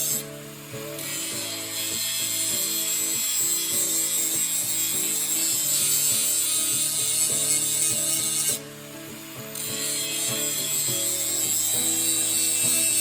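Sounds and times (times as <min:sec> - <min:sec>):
angle grinder grinding steel: 0:00.0 - 0:13.0
background music: 0:00.0 - 0:13.0.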